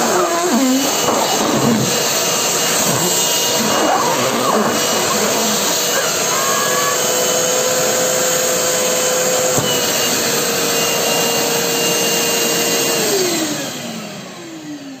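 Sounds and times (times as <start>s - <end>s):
wet dry vacuum running: 0.0s - 15.0s.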